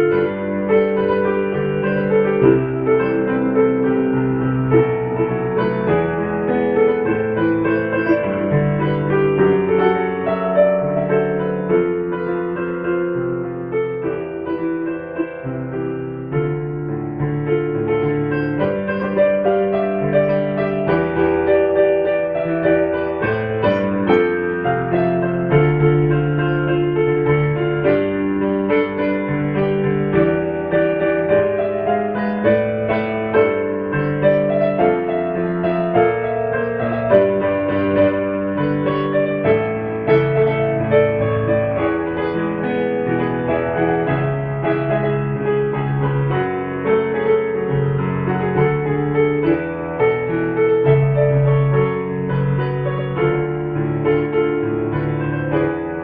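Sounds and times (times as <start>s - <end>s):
slow gentle piano music: 0.0s - 56.0s.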